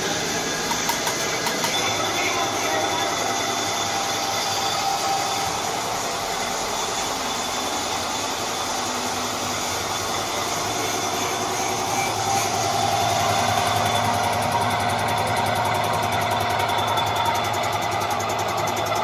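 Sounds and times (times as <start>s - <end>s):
machine drone: 0.0s - 19.0s.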